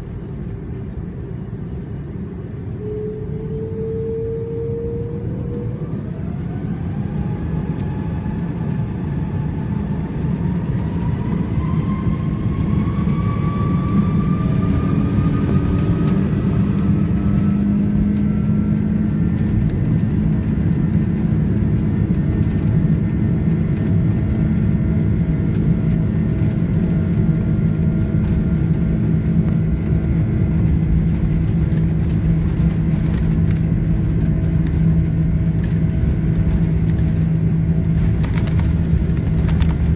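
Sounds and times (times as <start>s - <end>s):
jet engines whining: 0.0s - 39.9s
loud dense cabin rumble: 0.0s - 39.9s.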